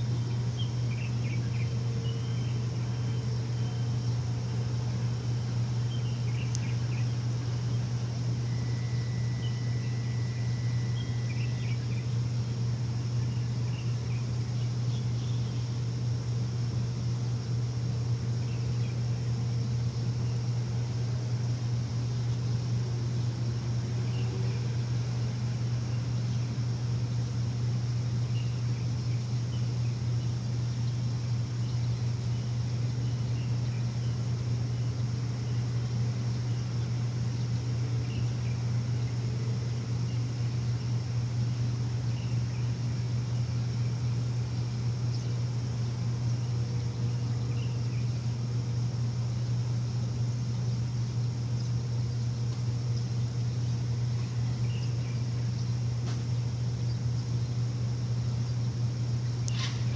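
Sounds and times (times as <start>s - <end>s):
thin steady tone: 0.0s - 49.3s
faint bird chirps: 0.0s - 59.9s
machine humming: 0.0s - 59.9s.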